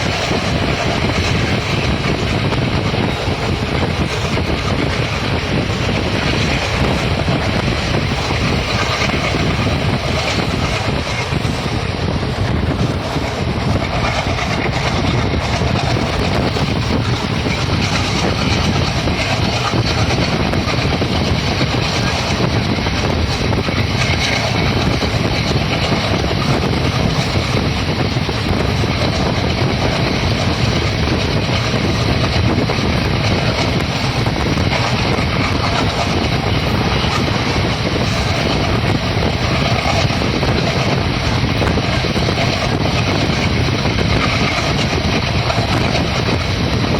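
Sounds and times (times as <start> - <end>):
train rumbling: 0.0 - 46.9
wheels clattering over rails: 0.0 - 46.9.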